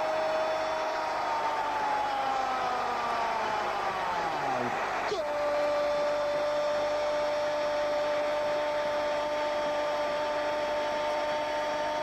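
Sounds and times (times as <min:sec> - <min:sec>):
stadium crowd hiss: 0:00.0 - 0:12.0.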